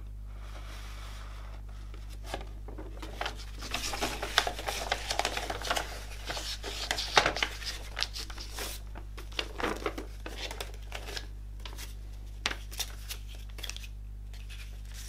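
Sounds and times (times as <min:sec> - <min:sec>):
steady low hum: 0:00.0 - 0:15.0
paper crackling and rustling: 0:02.0 - 0:15.0.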